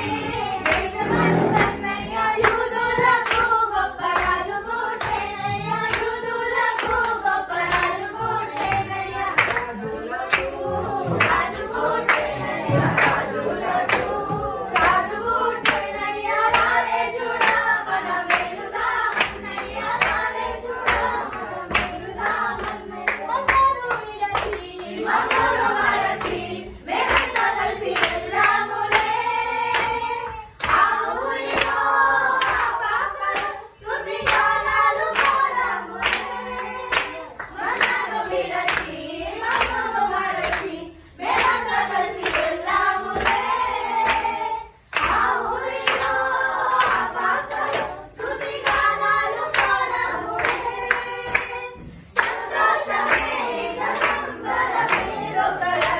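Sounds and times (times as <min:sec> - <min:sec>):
rhythmic hand clapping: 0:00.0 - 0:55.9
young voices singing together: 0:00.0 - 0:55.9.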